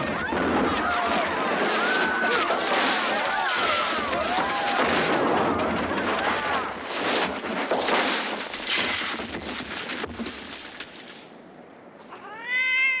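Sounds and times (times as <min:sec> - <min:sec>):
wooden structure collapsing: 0:00.0 - 0:11.4.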